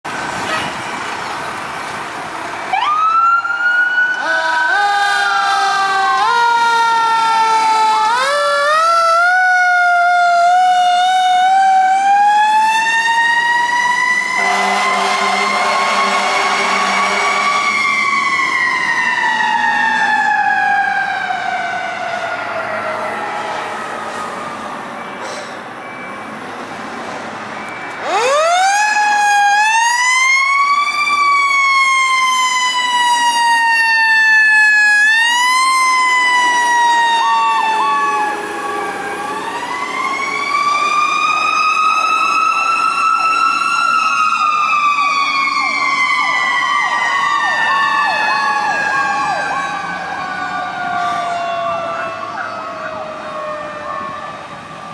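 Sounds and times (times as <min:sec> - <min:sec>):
fire truck siren rising and falling: 0:00.0 - 0:54.9.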